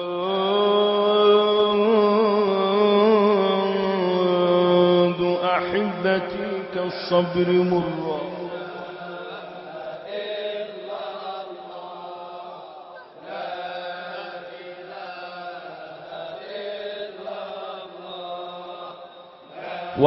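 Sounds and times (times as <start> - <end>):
chanting of repeated phrases: 0.0 - 20.0.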